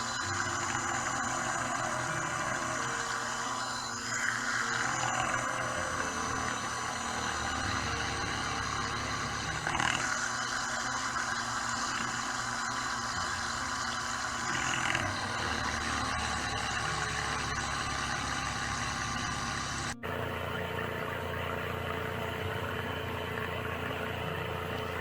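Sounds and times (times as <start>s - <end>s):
electric motor whirring: 0.0s - 25.0s.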